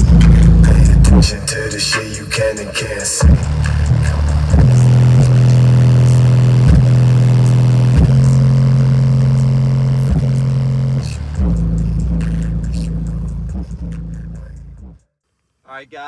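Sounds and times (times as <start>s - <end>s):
bass-heavy music through subwoofers: 0.0s - 15.1s.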